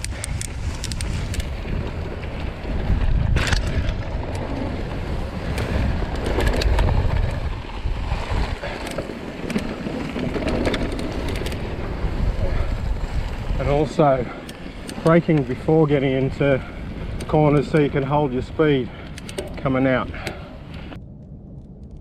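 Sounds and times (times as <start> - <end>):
bike rattling and knocking: 0.0 - 18.3
bike tyre noise: 0.0 - 22.0
wind rumbling on microphone: 0.0 - 22.0.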